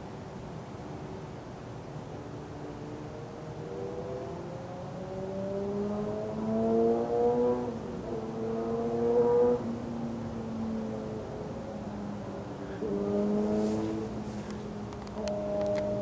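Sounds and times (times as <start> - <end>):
vehicle engine accelerating: 2.7 - 16.0.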